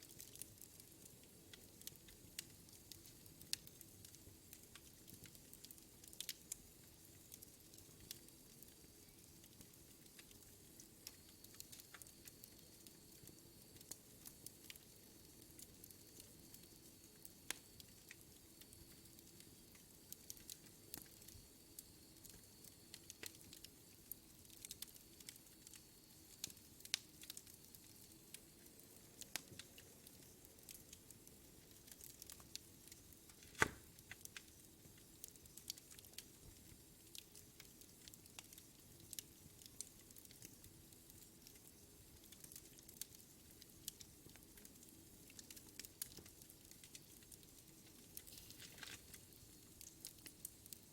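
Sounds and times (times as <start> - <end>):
faint hiss: 0.0 - 50.9
wood fire crackling and popping: 0.0 - 50.9.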